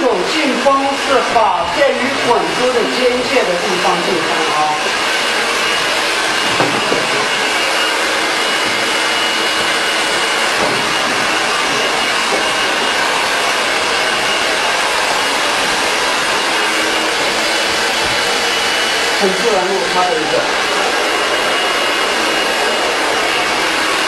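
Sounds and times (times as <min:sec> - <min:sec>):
hair dryer blowing air: 0:00.0 - 0:24.0
high fan whine: 0:00.0 - 0:24.0.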